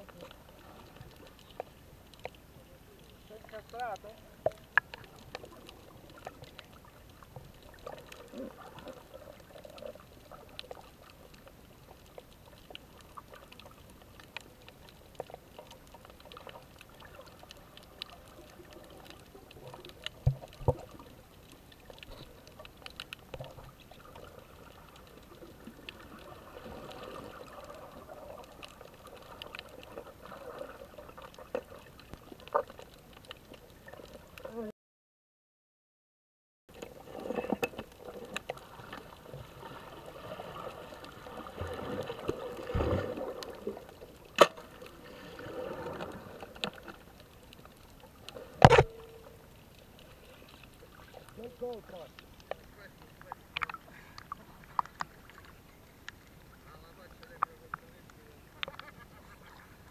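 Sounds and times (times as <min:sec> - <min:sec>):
faint clicks and crackles: 0:00.0 - 0:34.7, 0:36.7 - 0:59.9
underwater water bubbling: 0:00.0 - 0:34.7, 0:36.7 - 0:59.9.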